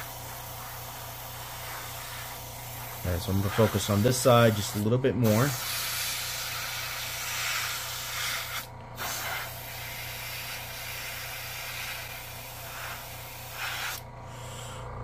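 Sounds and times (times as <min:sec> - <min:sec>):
airbrush spraying paint: 0:00.0 - 0:14.8.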